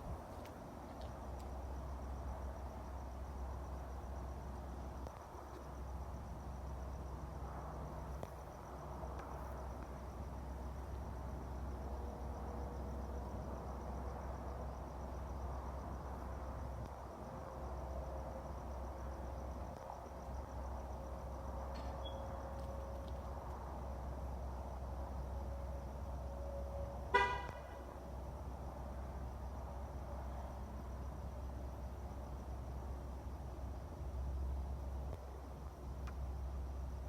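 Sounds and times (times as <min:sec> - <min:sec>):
crickets trilling: 0:00.0 - 0:37.0
faint steady tone: 0:00.0 - 0:37.0.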